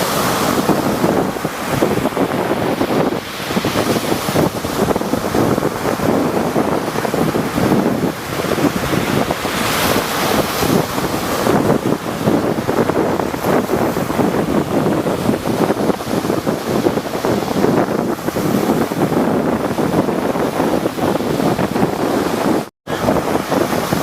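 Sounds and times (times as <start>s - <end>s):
waves breaking: 0.0s - 24.0s.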